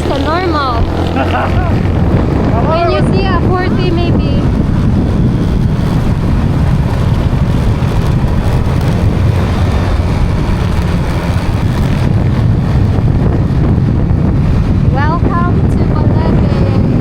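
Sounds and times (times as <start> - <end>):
vehicle engine and road noise: 0.0 - 17.0
wind buffeting microphone: 0.0 - 17.0.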